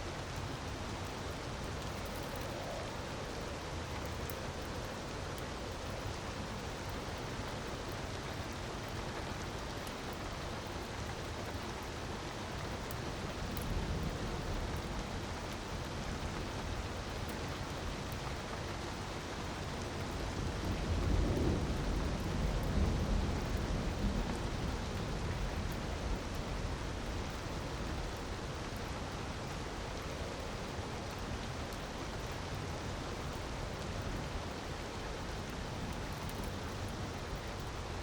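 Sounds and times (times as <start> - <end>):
wood fire crackling: 0.6 - 21.3, 22.2 - 38.0.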